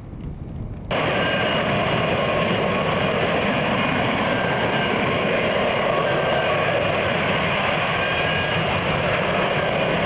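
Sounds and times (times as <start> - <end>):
loud jet engine noise: 0.0 - 10.0.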